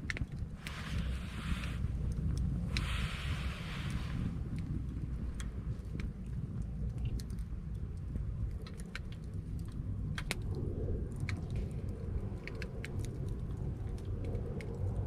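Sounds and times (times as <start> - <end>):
campfire crackling: 0.0 - 15.0
fire pops and snaps: 0.0 - 15.0
low rumble: 0.0 - 15.0.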